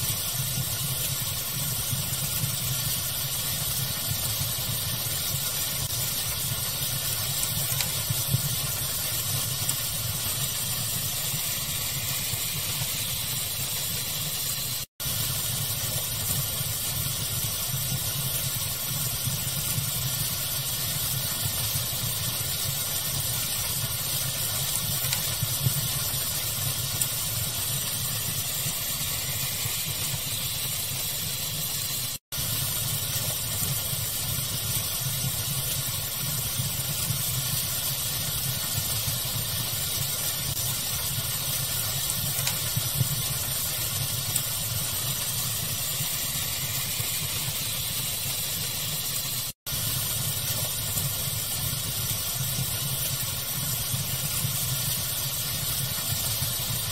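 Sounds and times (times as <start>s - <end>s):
fire hiss: 0.0s - 56.9s
pink noise: 0.0s - 56.9s
small fire crackles: 0.0s - 56.9s.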